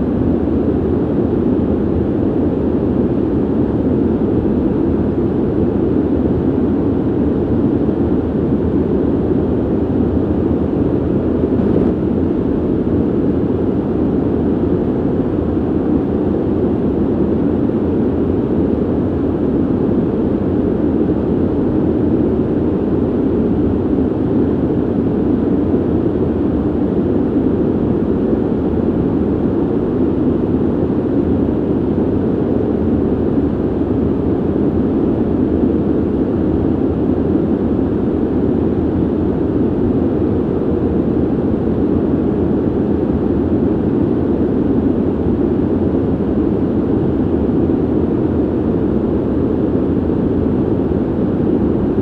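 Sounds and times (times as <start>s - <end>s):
ventilation air rushing: 0.0s - 52.0s.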